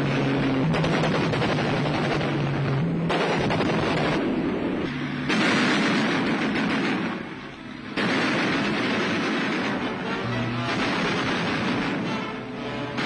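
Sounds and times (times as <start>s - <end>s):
aircraft cannon fire: 0.6s - 13.0s.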